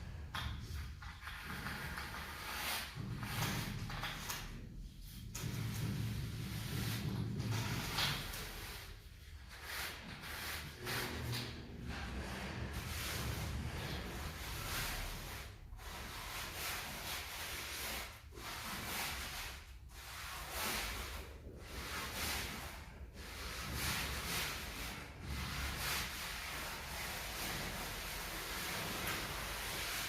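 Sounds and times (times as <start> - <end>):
trowel scraping mortar: 0.4 - 4.6, 5.2 - 30.0.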